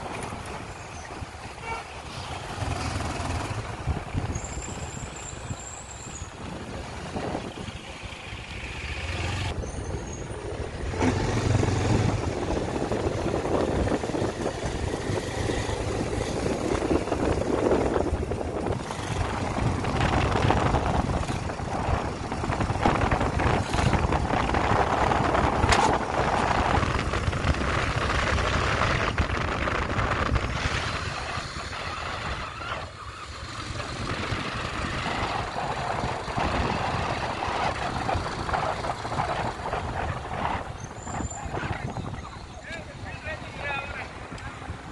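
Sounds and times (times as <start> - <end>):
wind rushing on microphone: 0.0 - 44.9.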